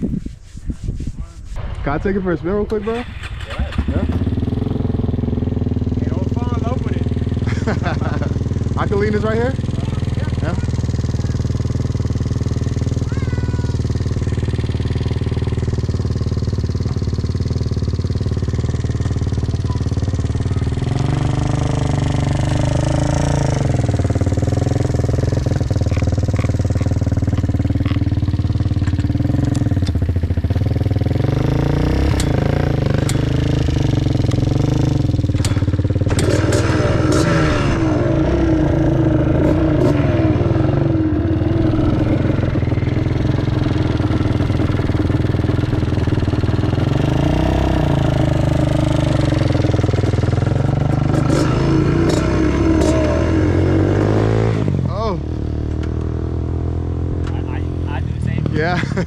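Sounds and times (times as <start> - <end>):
small motorcycle engine revving: 2.8 - 59.0.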